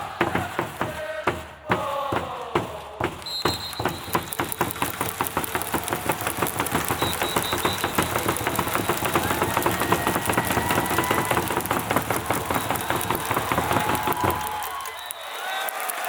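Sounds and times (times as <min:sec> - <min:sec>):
stadium crowd clapping rhythmically: 0:00.0 - 0:16.0.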